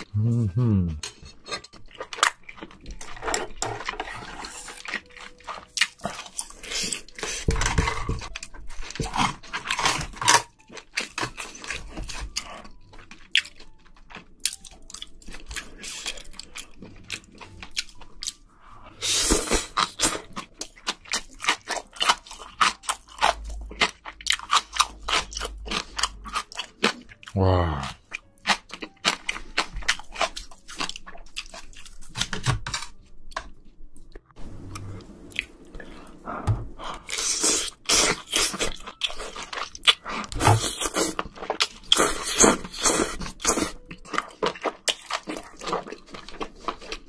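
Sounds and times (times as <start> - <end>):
chewing with crunches: 1.0 - 47.0.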